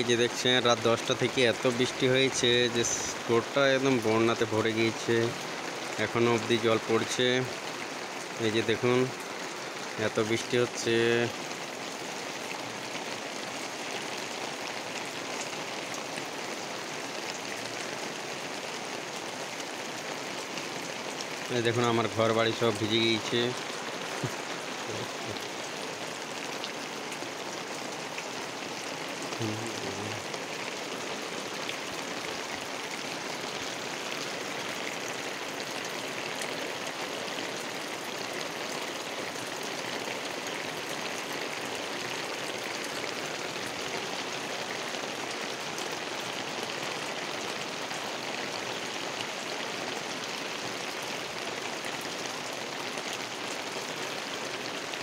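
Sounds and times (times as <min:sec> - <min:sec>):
heavy rain on roof and ground: 0:00.0 - 0:55.0.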